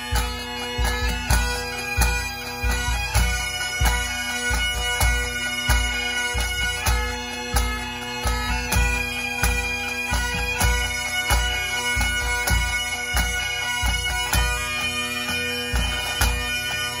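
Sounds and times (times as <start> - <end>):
bagpipes playing a tune: 0.0 - 17.0.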